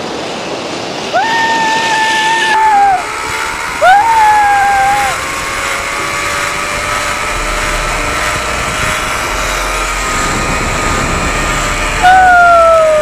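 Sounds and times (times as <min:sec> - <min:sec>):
wind noise on microphone: 0:00.0 - 0:13.0
zip-line pulleys whining on cable: 0:00.0 - 0:13.0
whine falling in pitch: 0:01.1 - 0:13.0.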